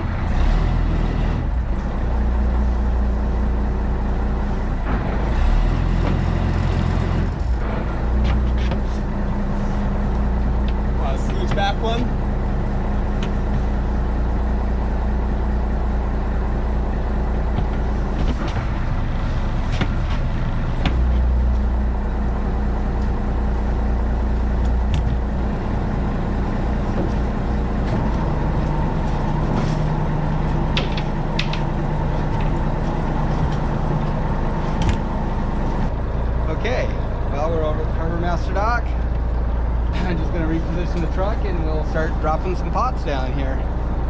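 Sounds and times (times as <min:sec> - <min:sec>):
truck engine running: 0:00.0 - 0:44.0.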